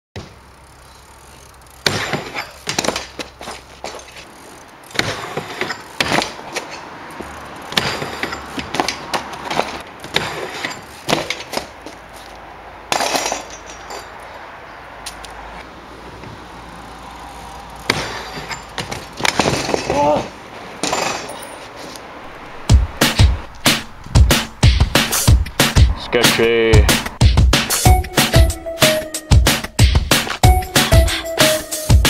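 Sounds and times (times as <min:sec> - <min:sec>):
bike pegs clanking and scraping: 0:00.2 - 0:26.0.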